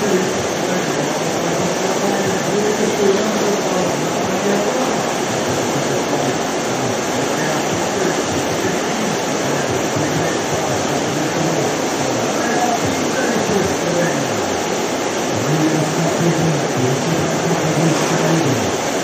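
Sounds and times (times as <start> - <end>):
whitewater rushing: 0.0 - 19.0.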